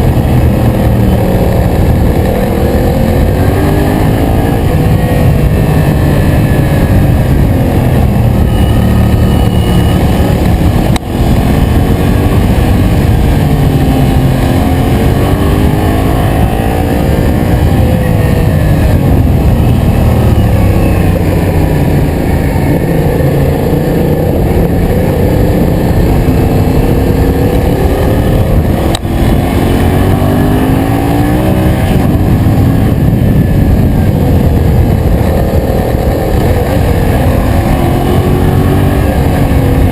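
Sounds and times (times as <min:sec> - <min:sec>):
dense low rush: 0:00.0 - 0:39.9
motorcycle engine revving: 0:00.0 - 0:39.9.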